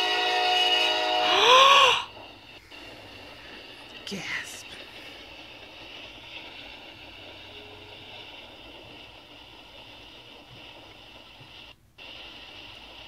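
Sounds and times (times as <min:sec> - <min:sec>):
freight train rolling past: 0:00.0 - 0:10.9.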